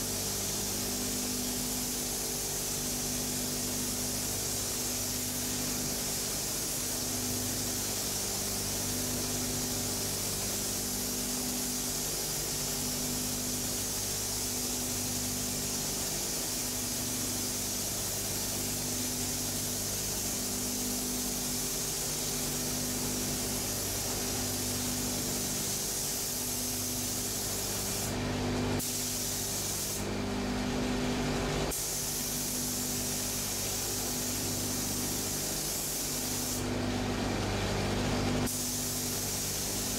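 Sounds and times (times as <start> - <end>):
spray gun hissing: 0.0 - 30.2, 31.6 - 36.8, 38.4 - 39.9
steady machine hum: 0.0 - 39.9.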